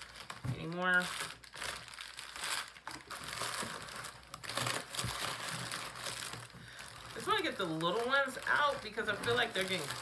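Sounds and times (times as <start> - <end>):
plastic packing crinkling: 0.0 - 10.0.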